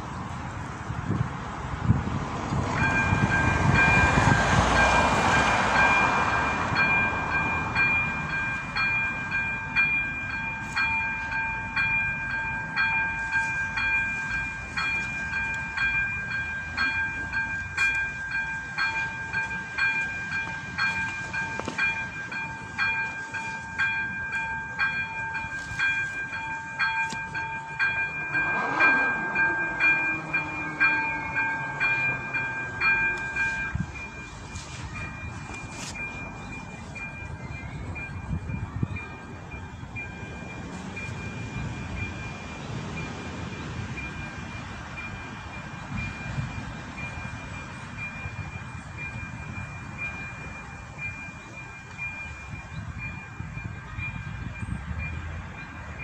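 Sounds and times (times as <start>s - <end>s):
car passing over crossing: 0.0s - 56.0s
level crossing bell ringing: 2.8s - 56.0s.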